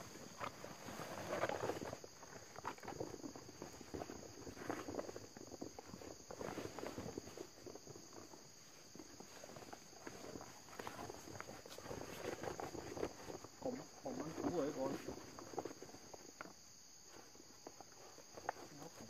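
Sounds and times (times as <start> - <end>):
suit rustling and crackling: 0.0 - 16.3
high insect drone: 0.0 - 19.0.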